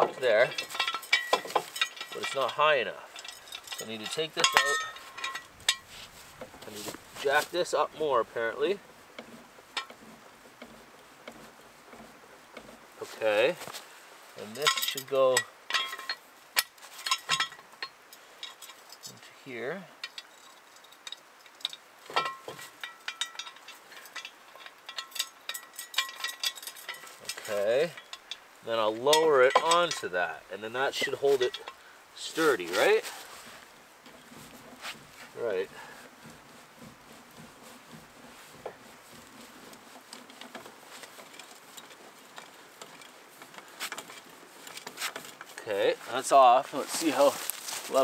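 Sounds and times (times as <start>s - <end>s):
low hiss: 0.0s - 48.0s.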